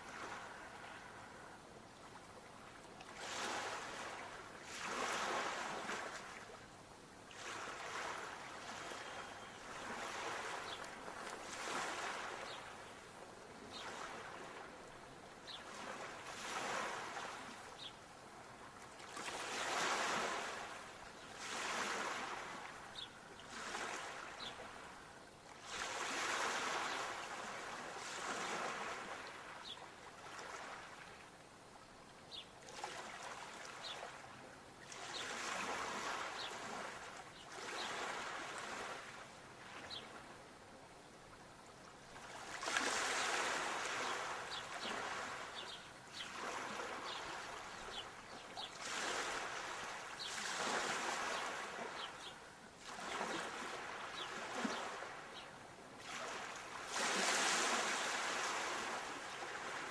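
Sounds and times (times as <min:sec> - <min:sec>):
sea waves washing in: 0:03.1 - 0:06.6, 0:07.3 - 0:13.1, 0:13.7 - 0:31.1, 0:32.7 - 0:40.4, 0:42.0 - 0:55.4, 0:56.0 - 0:59.9.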